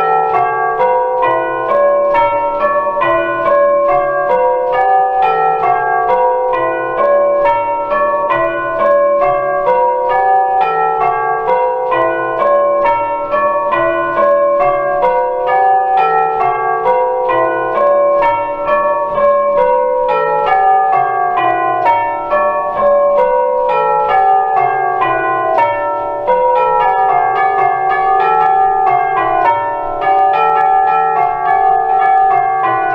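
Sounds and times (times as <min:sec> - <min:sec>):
tubular bells ringing: 0:00.0 - 0:32.9.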